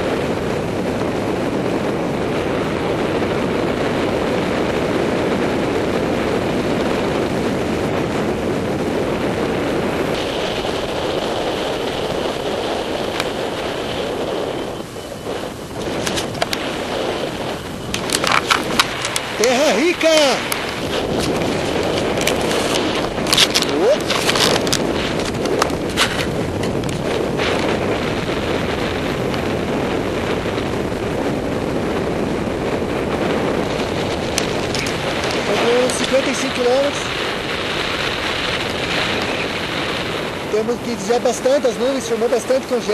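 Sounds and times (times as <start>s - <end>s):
wind rush buffeting microphone: 0.0s - 42.9s.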